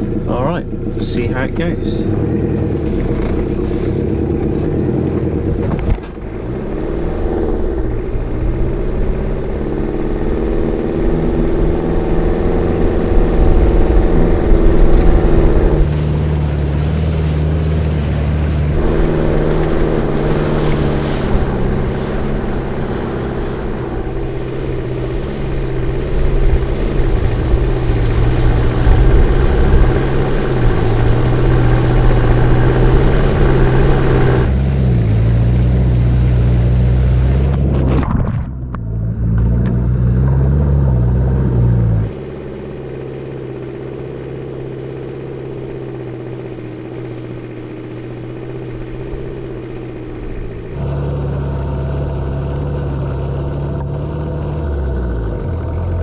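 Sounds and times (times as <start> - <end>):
engine revving under load: 0.0 - 56.0
mud and water splashing: 2.1 - 41.4, 42.0 - 56.0.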